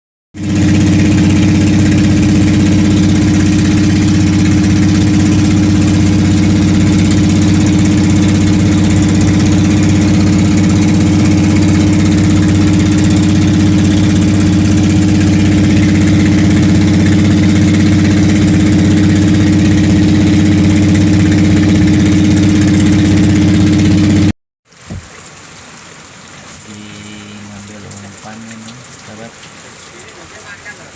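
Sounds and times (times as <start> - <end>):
boat engine droning: 0.4 - 24.3, 26.4 - 30.9.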